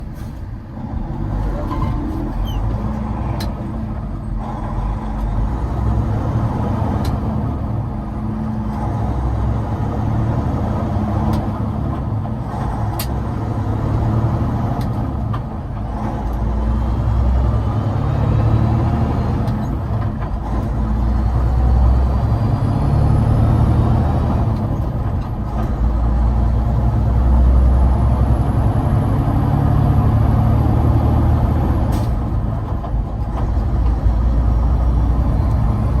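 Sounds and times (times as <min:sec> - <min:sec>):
diesel truck engine upshifting: 0:00.0 - 0:36.0.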